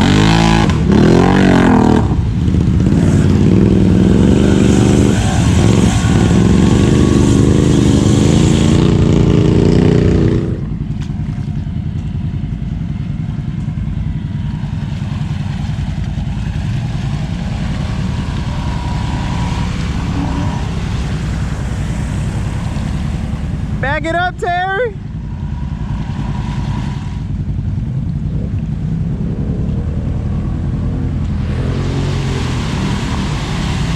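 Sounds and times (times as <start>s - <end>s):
off-road vehicle engine: 0.0s - 33.9s.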